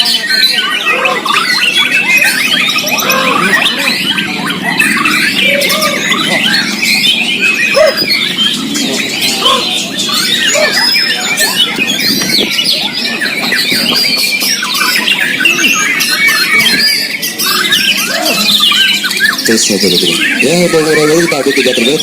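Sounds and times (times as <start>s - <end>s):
birds singing: 0.0s - 22.0s.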